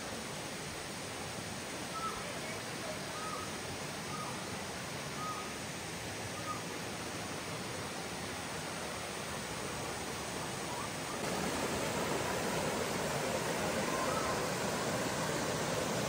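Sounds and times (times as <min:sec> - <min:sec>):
waterfall and rapids rushing: 0:00.0 - 0:16.0.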